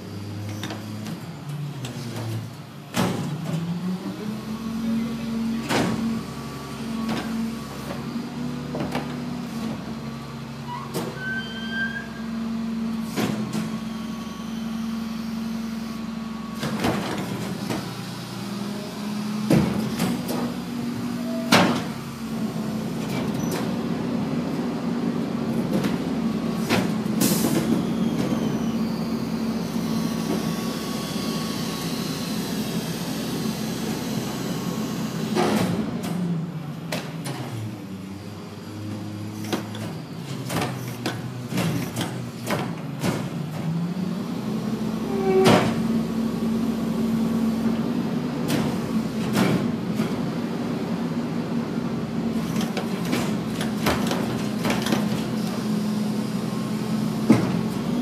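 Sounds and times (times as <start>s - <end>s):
garbage truck running: 0.0s - 58.0s.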